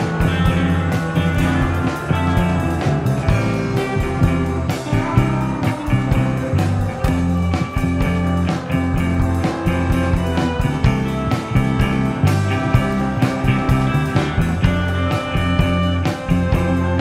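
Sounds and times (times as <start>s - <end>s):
rock music with guitar: 0.0s - 17.0s.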